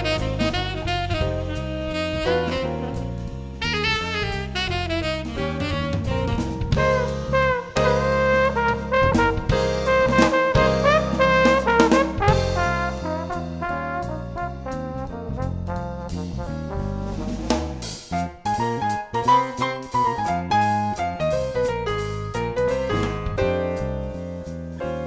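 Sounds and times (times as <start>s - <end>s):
drum kit beat: 0.0s - 25.0s
jazz music with brass horns: 0.0s - 25.0s.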